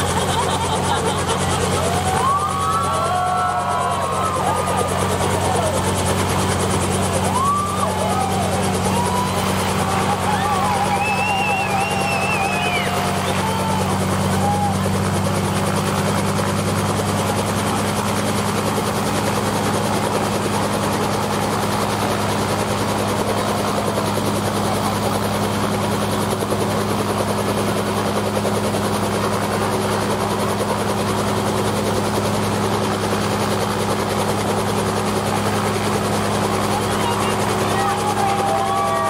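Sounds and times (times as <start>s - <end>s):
helicopter rotor hum: 0.0s - 39.0s.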